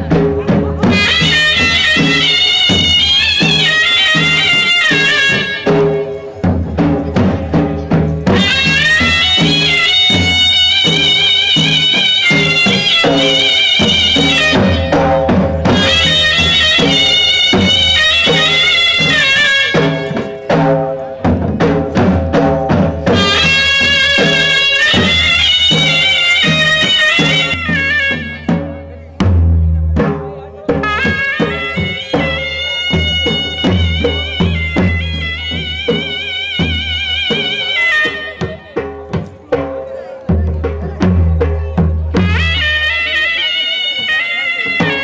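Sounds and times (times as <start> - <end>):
steady drum beat: 0.0 - 45.0
high reedy melody: 0.8 - 6.4, 8.3 - 21.2, 22.4 - 29.3, 30.7 - 39.0, 42.1 - 45.0.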